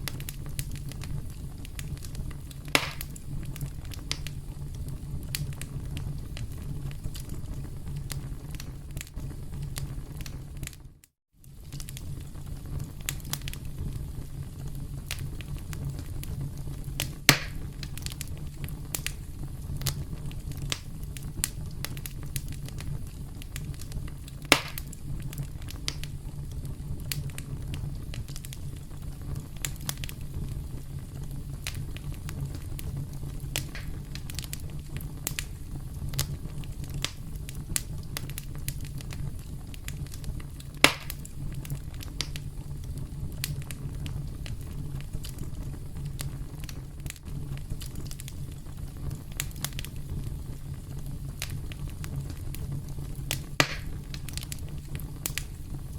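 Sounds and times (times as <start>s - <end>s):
campfire crackling: 0.0s - 55.9s
loud fire pops: 0.0s - 55.9s
low rumble of burning wood: 0.0s - 55.9s.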